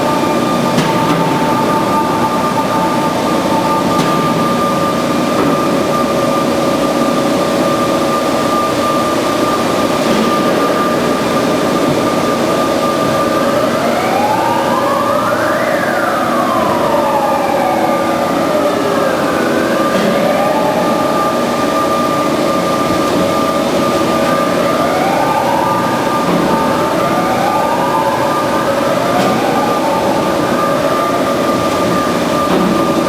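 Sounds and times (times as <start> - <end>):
band saw whining: 0.0 - 33.0.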